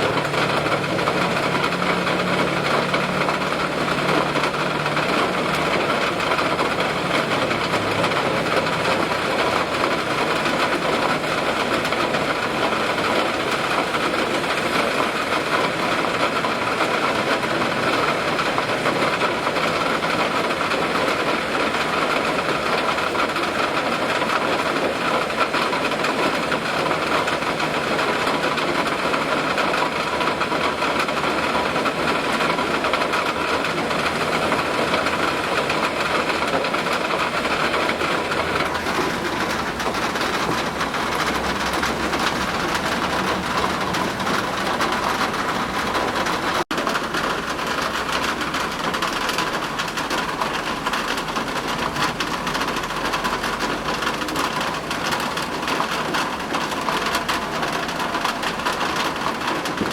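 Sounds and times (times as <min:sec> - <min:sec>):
rain with wind: 0:00.0 - 0:59.9.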